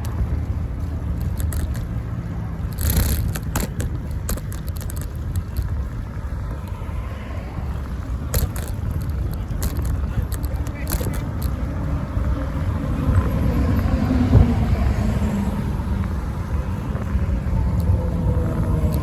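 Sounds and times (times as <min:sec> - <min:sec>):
bicycle clicks and rattles: 0:00.0 - 0:19.0
wind buffeting microphone: 0:00.0 - 0:19.0.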